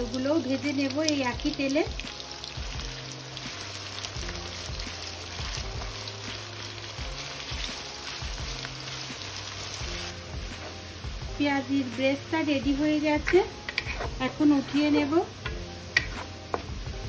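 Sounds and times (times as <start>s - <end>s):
onions sizzling in oil: 0.0s - 17.0s
soft background music: 0.0s - 17.0s.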